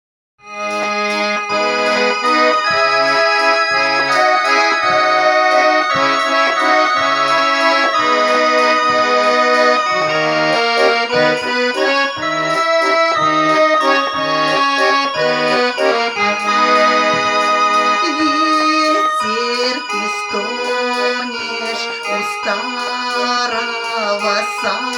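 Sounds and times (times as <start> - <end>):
button accordion melody: 0.4 - 24.9.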